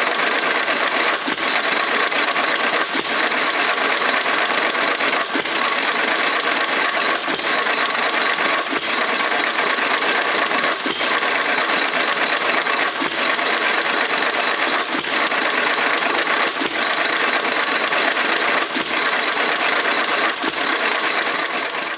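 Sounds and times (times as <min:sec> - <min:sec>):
hit-and-miss engine clattering: 0:00.0 - 0:21.9.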